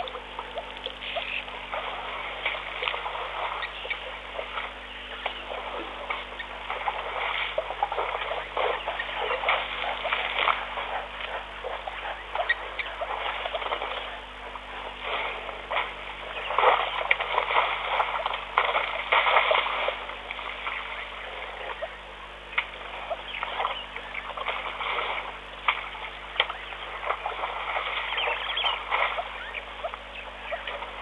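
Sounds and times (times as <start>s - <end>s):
faint electrical hum: 0.0s - 31.0s
splashes and crackles of mud: 0.0s - 31.0s.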